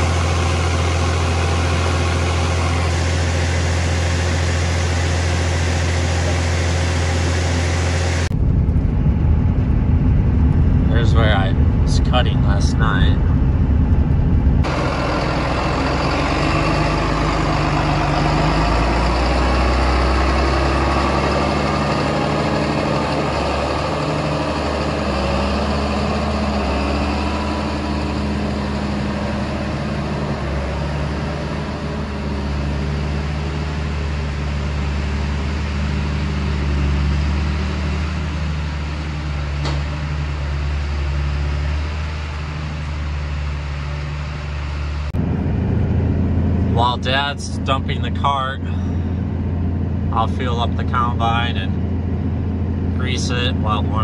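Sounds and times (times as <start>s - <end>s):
heavy engine running: 0.0s - 54.0s.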